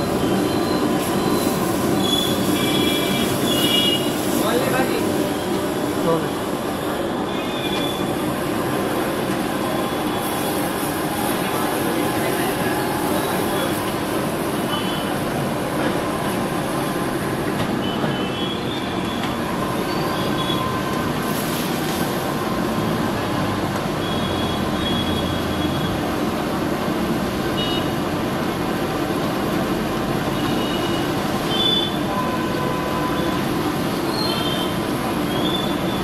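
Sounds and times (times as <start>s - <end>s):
gas wok burner roaring: 0.0s - 36.0s.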